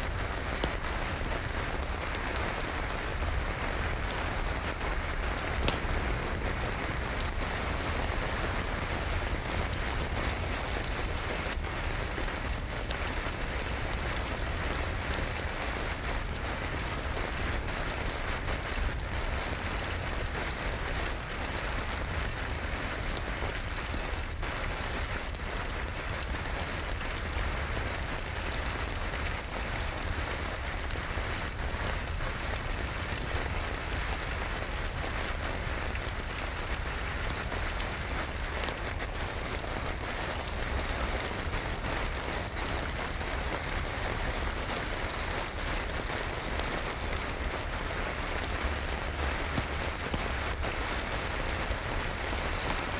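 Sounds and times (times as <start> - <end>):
sharp ticks of raindrops: 0.0 - 52.9
steady rainfall: 0.0 - 52.9.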